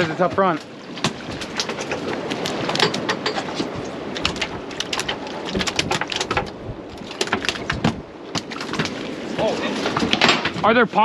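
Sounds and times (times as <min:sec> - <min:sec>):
fish flopping on boat deck: 0:00.0 - 0:10.7
water noise: 0:00.0 - 0:11.0
wind: 0:00.0 - 0:11.0.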